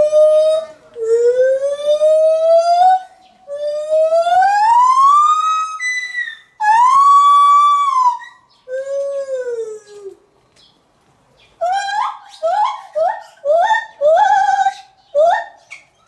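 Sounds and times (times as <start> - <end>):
gibbon calling: 0.0 - 10.2, 11.6 - 16.0.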